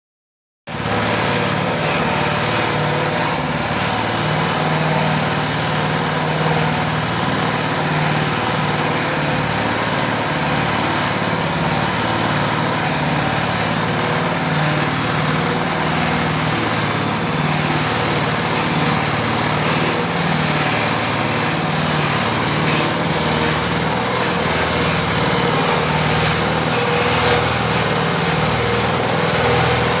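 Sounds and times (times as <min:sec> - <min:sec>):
shredder running: 0:00.7 - 0:30.0.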